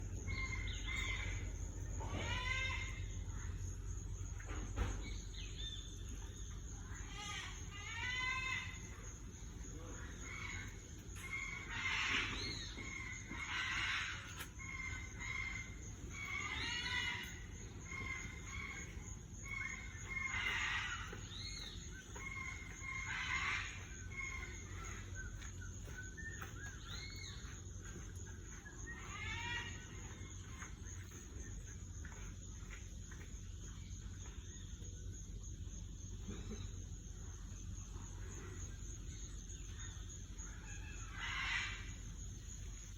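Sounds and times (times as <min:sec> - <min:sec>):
birds chirping and squawking: 0:00.0 - 0:32.8, 0:36.1 - 0:42.9.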